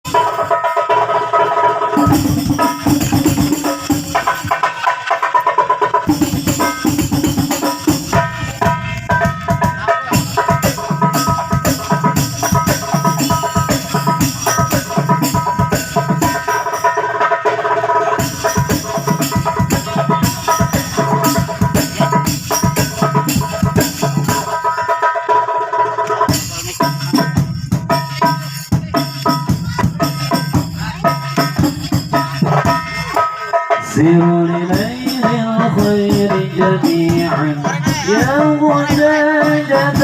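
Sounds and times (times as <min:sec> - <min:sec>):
frame drums: 0:00.0 - 0:40.0.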